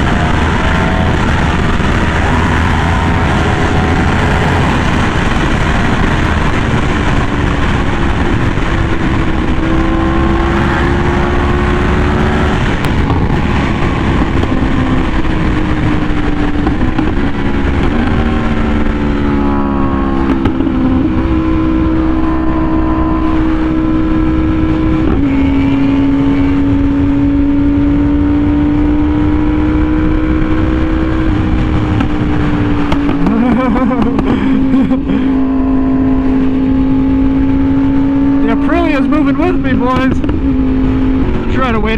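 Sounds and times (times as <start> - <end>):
motorcycle engine at speed: 0.0 - 41.9
wind rumble on microphone: 0.0 - 41.9.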